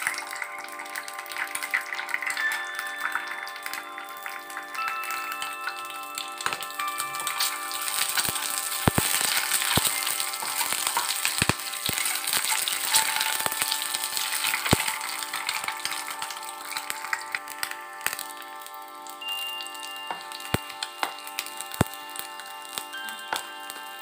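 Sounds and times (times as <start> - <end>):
oil sizzling and crackling: 0.0 - 24.0.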